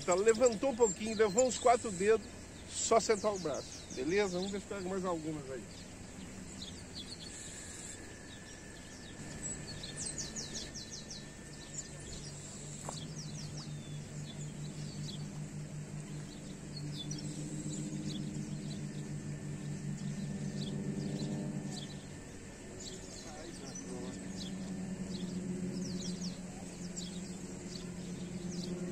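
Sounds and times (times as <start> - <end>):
birds chirping: 0.0 - 28.9
low hum: 0.0 - 28.9.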